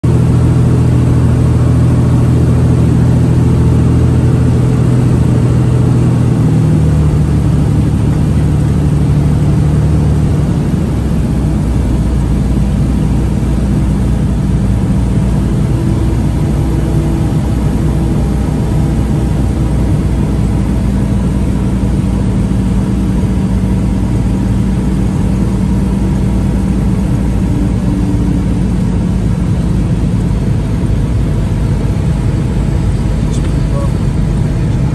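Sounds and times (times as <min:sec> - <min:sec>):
plane engine and propeller droning: 0:00.0 - 0:34.9.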